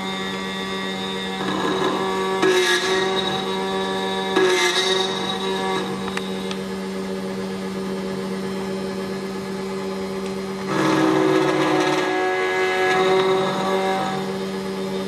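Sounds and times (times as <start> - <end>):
key cutting machine: 0.0 - 7.5, 9.4 - 15.0.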